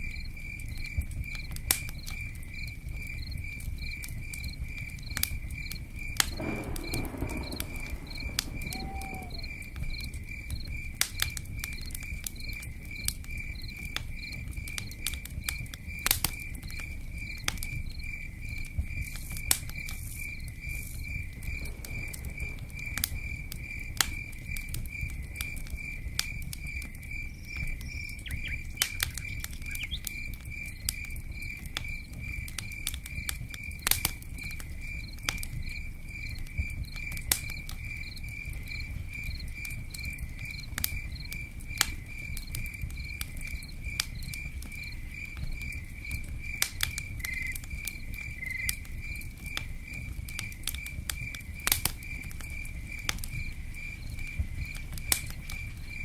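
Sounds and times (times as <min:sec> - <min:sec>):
campfire crackling and popping: 0:00.0 - 0:56.0
cricket chirping: 0:00.0 - 0:56.0
rain pattering: 0:00.0 - 0:56.0.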